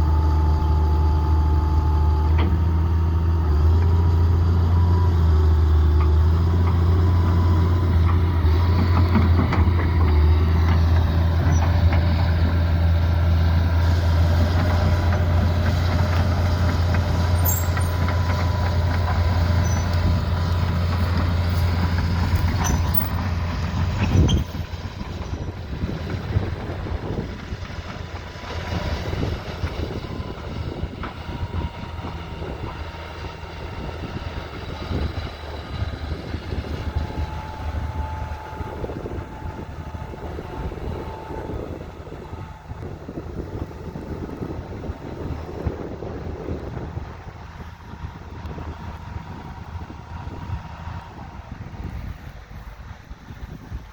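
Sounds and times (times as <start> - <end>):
excavator diesel engine drone: 0.0 - 53.9.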